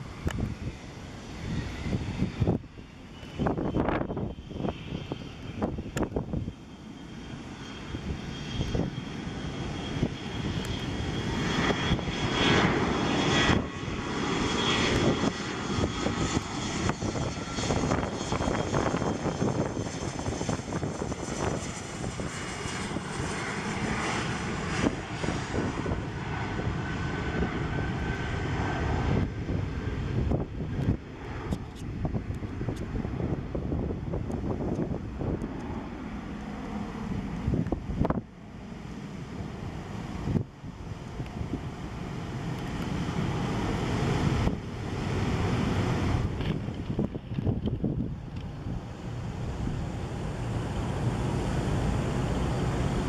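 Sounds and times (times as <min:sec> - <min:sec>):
jet engines whining at takeoff: 0:00.0 - 0:53.0.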